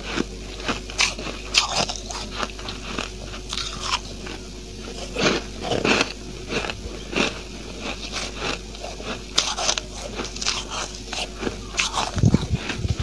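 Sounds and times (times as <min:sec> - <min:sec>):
frost crunching being chewed: 0:00.0 - 0:13.0.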